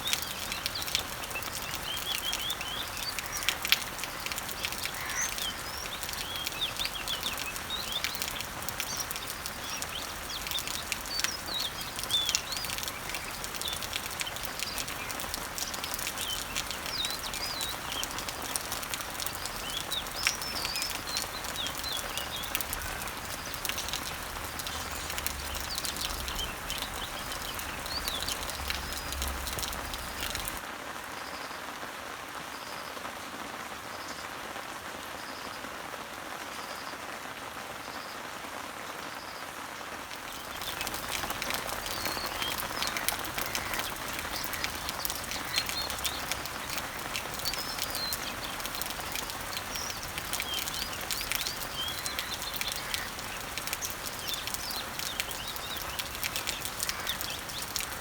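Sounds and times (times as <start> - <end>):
birds chirping: 0.0 - 30.6, 40.1 - 58.0
drip ticks: 0.0 - 30.6, 40.2 - 58.0
rain falling on leaves: 0.0 - 58.0.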